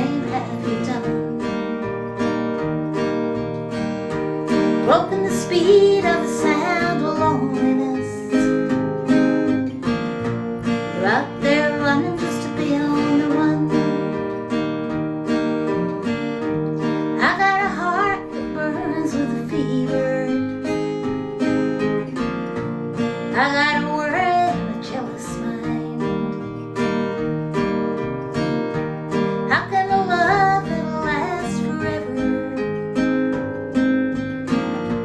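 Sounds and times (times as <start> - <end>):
acoustic guitar strumming: 0.0 - 35.0.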